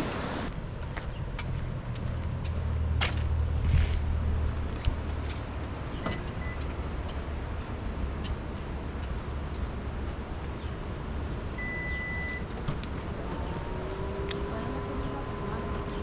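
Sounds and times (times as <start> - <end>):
road and engine noise in car: 0.0 - 16.0.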